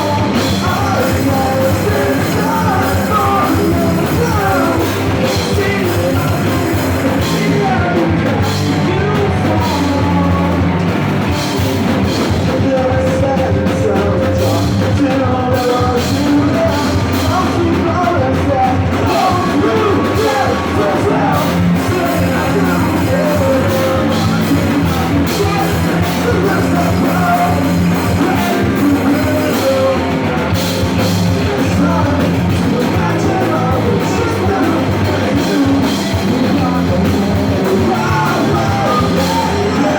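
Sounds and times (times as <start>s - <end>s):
person singing lead vocal: 0.0s - 39.9s
rock band playing live: 0.0s - 39.9s.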